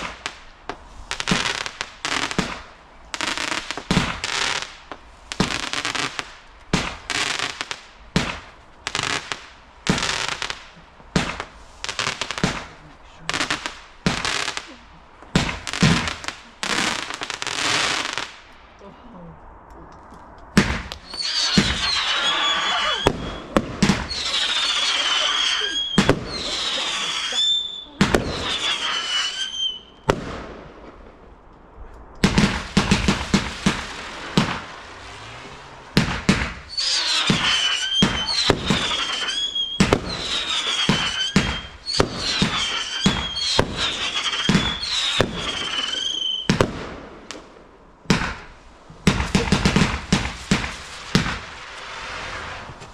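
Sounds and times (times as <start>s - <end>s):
rapid firework bangs: 0.0s - 18.5s, 20.6s - 31.3s, 32.2s - 52.9s
whistling fireworks: 0.0s - 18.8s, 19.9s - 52.9s.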